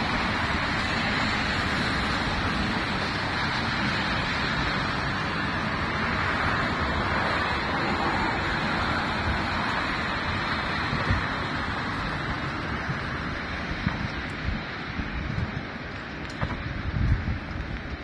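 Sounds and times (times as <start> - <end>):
car tyres on wet asphalt: 0.0 - 18.0
low traffic rumble: 0.0 - 18.0.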